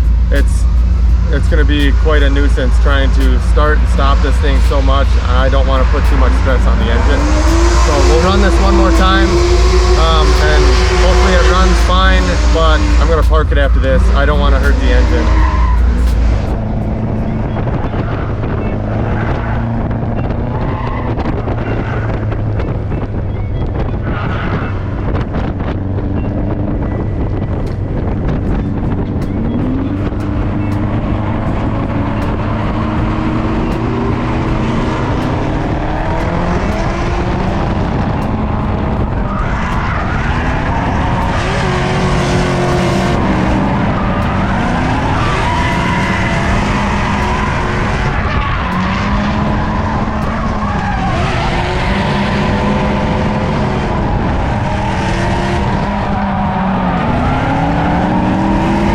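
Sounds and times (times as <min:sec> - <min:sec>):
tyres squealing: 0:00.0 - 0:22.3, 0:27.6 - 0:53.4
car engine revving: 0:00.0 - 0:58.9.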